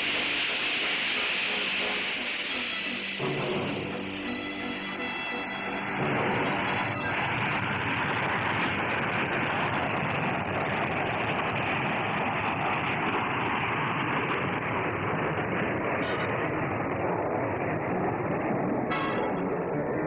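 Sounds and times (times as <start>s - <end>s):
jet engines at full power: 0.0s - 20.0s.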